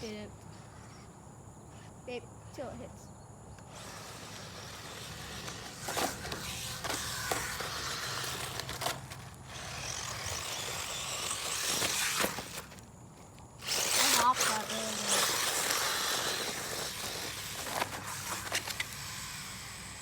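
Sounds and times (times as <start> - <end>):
rc truck crunching over gravel: 3.6 - 20.0.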